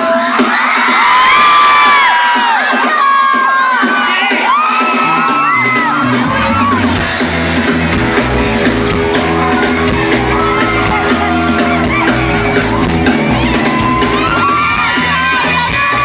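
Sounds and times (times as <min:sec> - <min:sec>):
crowd shouting and singing: 0:00.0 - 0:16.0
live rock band playing: 0:00.0 - 0:16.0.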